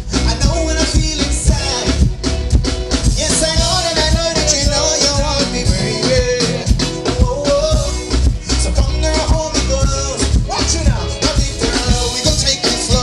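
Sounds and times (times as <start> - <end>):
band music with drum beat: 0.0 - 13.0.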